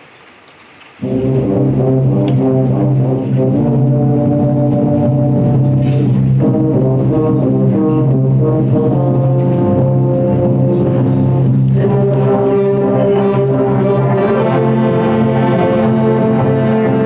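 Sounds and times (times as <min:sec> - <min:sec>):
concert wind band playing: 0:01.0 - 0:17.0.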